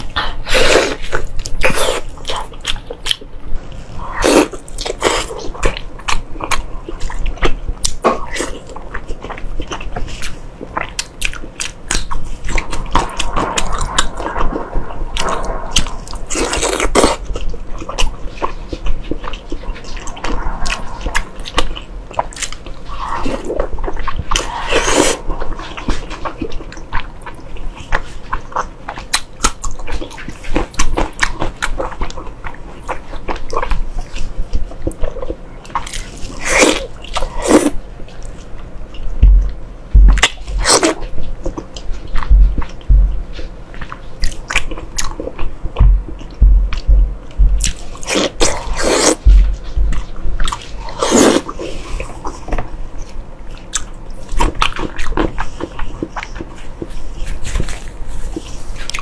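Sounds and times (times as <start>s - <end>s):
chewing and wet mouth sounds: 0.0s - 59.0s.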